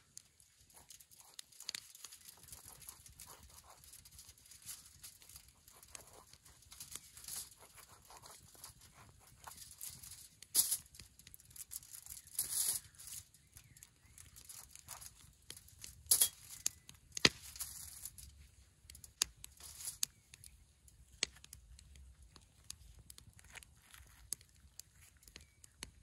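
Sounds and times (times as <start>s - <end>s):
aluminium foil crinkling: 0.0s - 26.0s.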